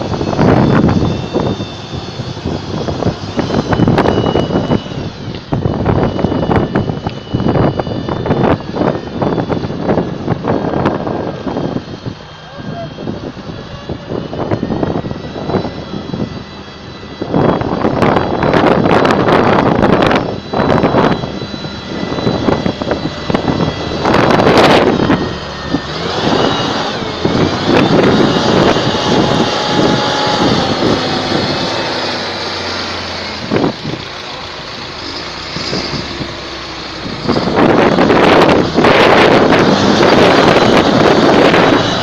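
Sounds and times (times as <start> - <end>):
tractor diesel engine under heavy load: 0.0 - 42.0.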